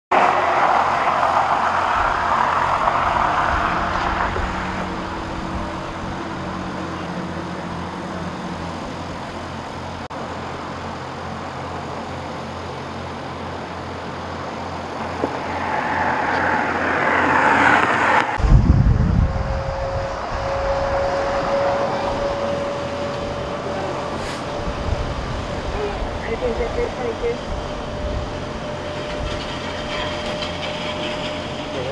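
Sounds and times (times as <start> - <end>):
vehicle rushing by: 0.1 - 10.1, 13.5 - 31.9
freeway traffic passing: 0.1 - 31.9
idling engines hum: 0.1 - 31.9
deep rumble: 1.4 - 10.1, 15.0 - 31.9.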